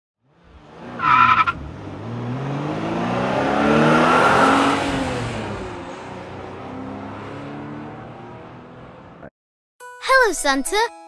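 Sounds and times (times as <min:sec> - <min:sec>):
car engine revving: 0:00.2 - 0:09.3.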